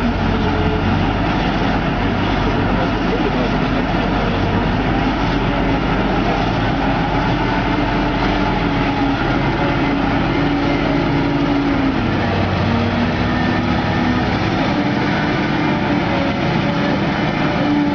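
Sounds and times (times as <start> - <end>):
diesel engine running under load: 0.0 - 17.9.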